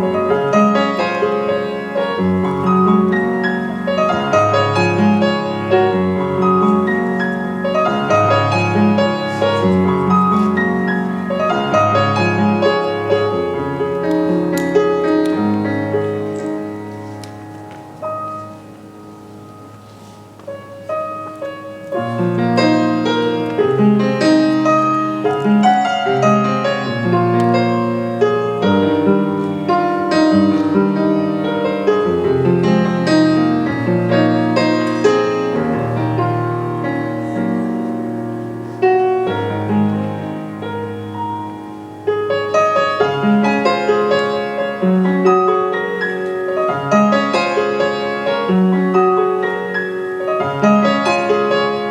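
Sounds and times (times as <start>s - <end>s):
piano melody: 0.0s - 51.9s.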